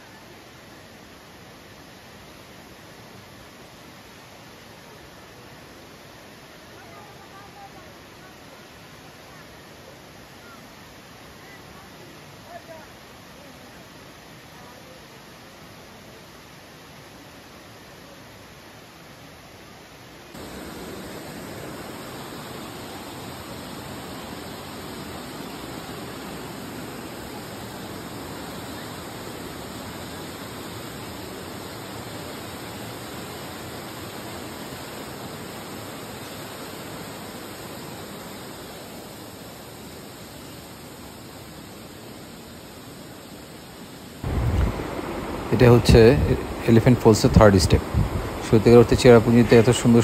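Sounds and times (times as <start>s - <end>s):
waterfall rushing over rocks: 0.0s - 50.0s.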